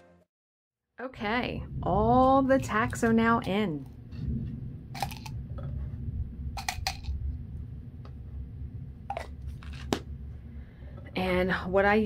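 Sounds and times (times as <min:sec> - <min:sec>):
distant thunder rumbling: 0:01.2 - 0:11.8.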